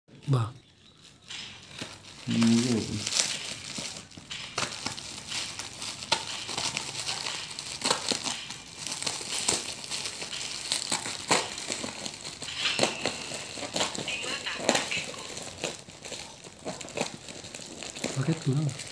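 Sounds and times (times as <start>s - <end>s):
plastic film crinkling: 0.2s - 18.9s
scissors cutting plastic: 1.0s - 18.9s.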